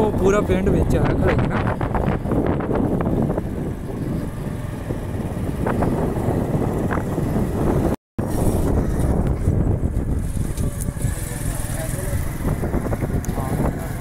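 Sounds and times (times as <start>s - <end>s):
passing vehicles rumbling: 0.0s - 14.0s
wind buffeting microphone: 0.0s - 14.0s.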